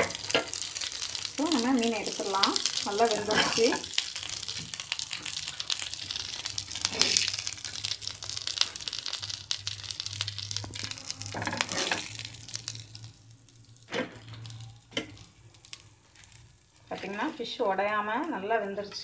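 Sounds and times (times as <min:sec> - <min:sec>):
hot oil sizzling and popping: 0:00.0 - 0:19.0.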